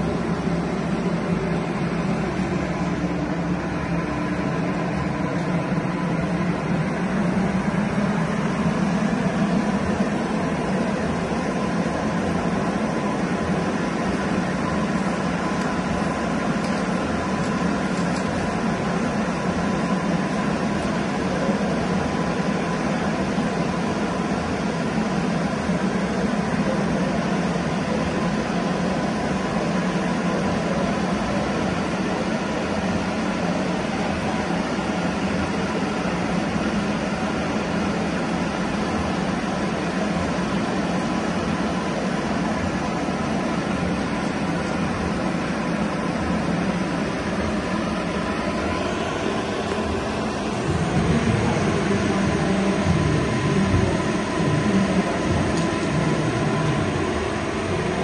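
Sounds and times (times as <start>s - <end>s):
mechanical drone: 0.0s - 58.0s.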